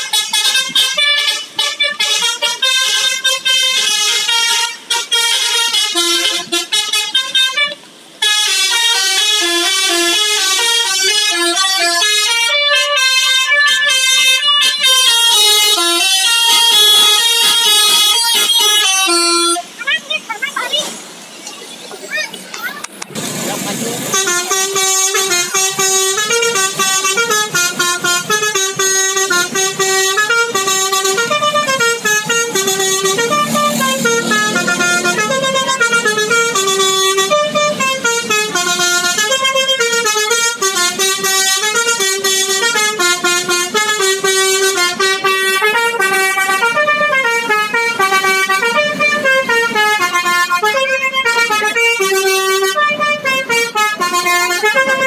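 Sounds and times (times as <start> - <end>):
multi-tone bus horn tune: 0.0 - 19.8, 23.7 - 55.0.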